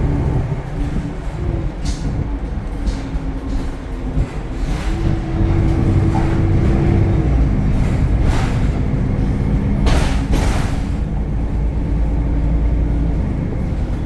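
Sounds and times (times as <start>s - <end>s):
bus engine drone with whine: 0.0s - 14.0s.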